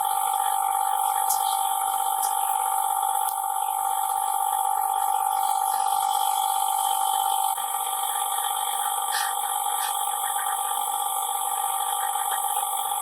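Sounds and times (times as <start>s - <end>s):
machine whining and hissing: 0.0s - 13.0s.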